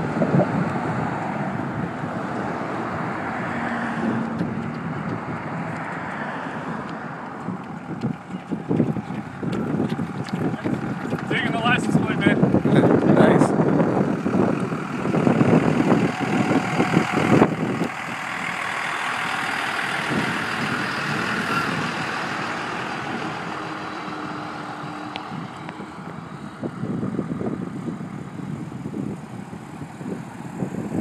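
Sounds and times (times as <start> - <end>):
bus driving past: 0.0 - 12.7, 13.3 - 31.0
uneven rumble: 4.1 - 31.0.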